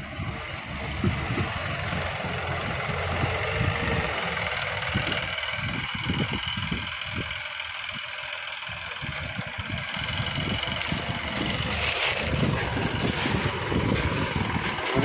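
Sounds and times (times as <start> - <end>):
wind buffeting microphone: 0.0 - 8.0, 8.7 - 15.0
combine harvester running: 0.0 - 15.0.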